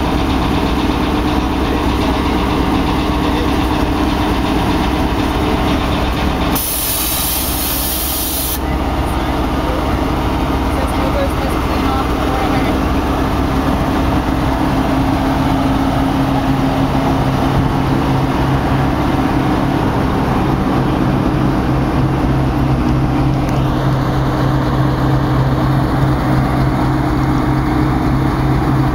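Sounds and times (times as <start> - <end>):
diesel locomotive engine idling: 0.0 - 28.9.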